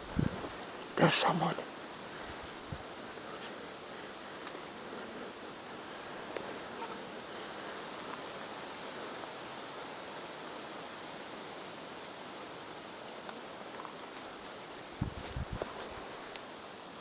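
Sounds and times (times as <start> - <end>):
faint ticks or rustles: 0.0 - 17.0
steady background hiss: 0.0 - 17.0.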